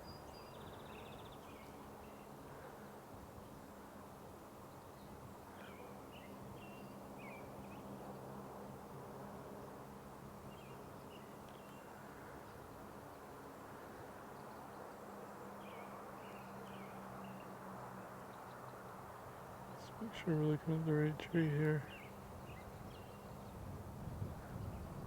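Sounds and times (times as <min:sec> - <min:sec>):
soft background rush: 0:00.3 - 0:24.0.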